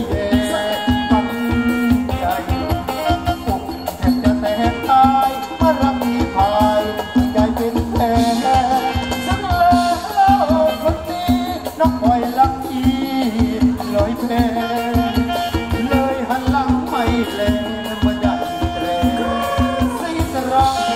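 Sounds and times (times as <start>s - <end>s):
quick low drum beat: 0.0s - 20.9s
wavering lead melody: 0.0s - 20.9s.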